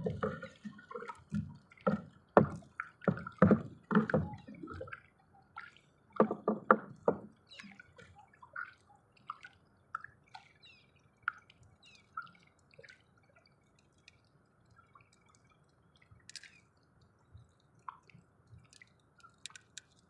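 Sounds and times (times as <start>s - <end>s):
water dripping and splashing: 0.0s - 20.0s.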